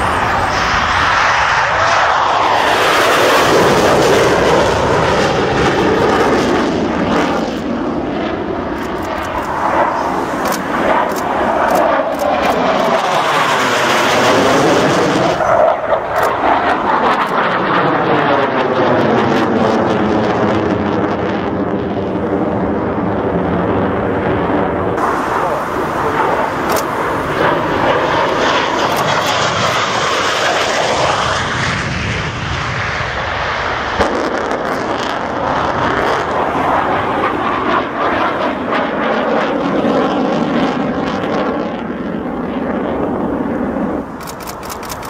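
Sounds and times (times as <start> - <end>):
jet engine crackles: 0.0 - 18.6, 24.4 - 45.0
jet engine roaring in afterburner: 0.0 - 45.0.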